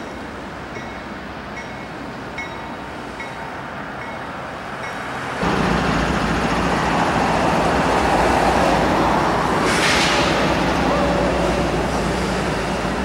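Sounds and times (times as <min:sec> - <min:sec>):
diesel locomotive engines droning: 0:00.0 - 0:13.0
rail and wheel noise: 0:00.0 - 0:13.0.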